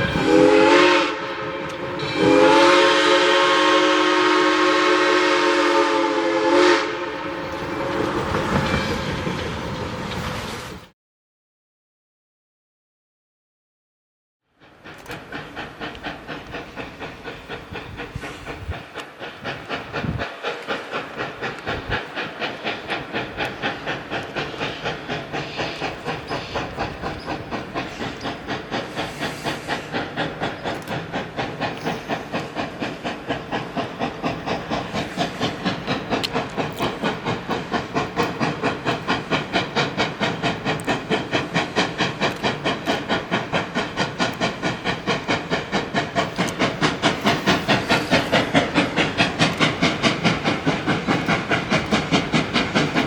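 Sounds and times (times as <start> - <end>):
steam locomotive chuffing: 0.0 - 10.8, 14.5 - 53.0.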